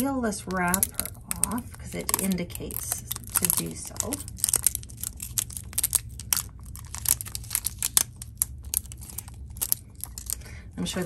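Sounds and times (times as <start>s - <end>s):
plastic wrapper crinkling: 0.0s - 10.7s.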